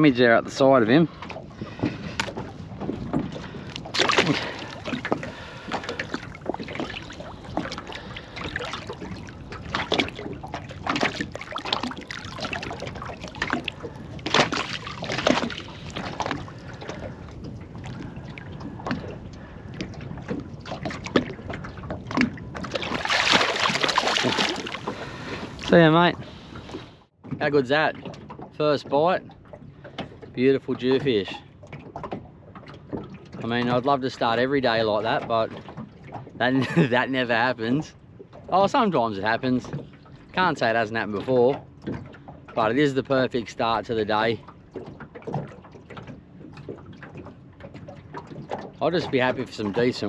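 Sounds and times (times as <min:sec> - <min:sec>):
water splashing beside a boat: 0:00.0 - 0:50.0.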